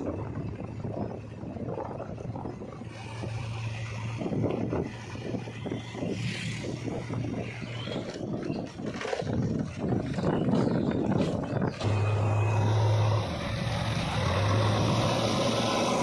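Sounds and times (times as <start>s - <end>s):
road noise: 0.0s - 16.0s
rough wind: 0.0s - 16.0s
vehicle engine running: 0.0s - 16.0s.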